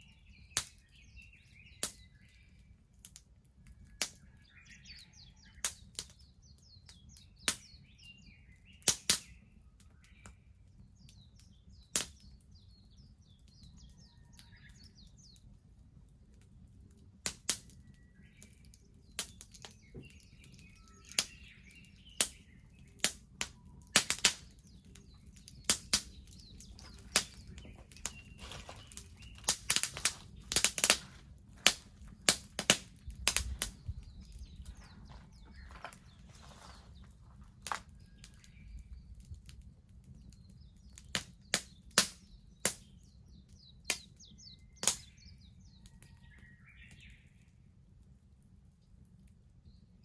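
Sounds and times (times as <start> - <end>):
small birds chirping: 0.0 - 48.0
bonfire crackling and popping: 0.0 - 50.0.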